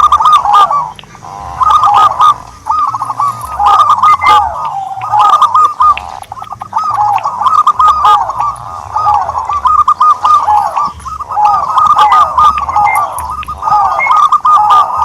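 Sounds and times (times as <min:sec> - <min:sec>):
doves cooing: 0:00.0 - 0:15.0.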